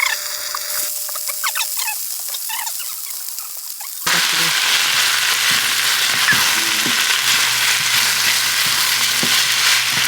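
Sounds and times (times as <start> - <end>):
paste sizzling in a hot pan: 0.2 - 10.0.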